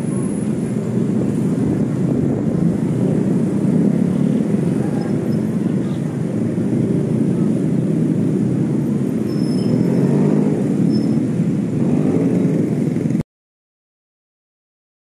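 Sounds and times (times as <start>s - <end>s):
low vehicle rumble: 0.0s - 13.2s.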